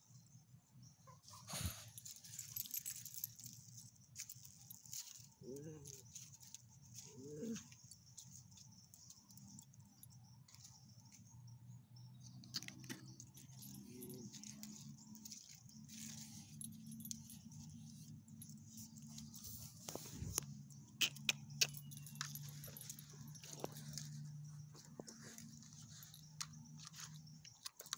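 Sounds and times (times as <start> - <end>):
dog tags jingling: 1.6 - 11.0, 12.3 - 27.9.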